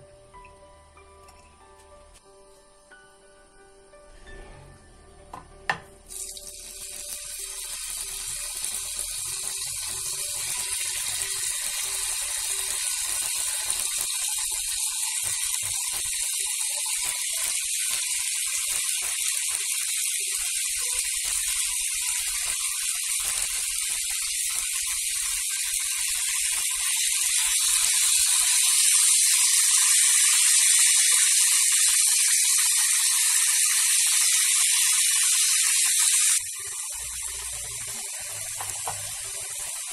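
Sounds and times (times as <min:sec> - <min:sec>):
chicken sizzling in oil: 0:06.0 - 0:39.9.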